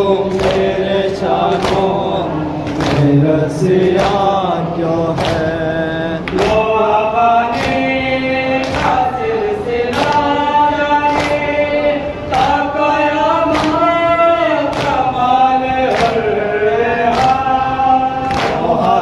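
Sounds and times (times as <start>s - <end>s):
men singing a mourning chant: 0.0s - 19.0s.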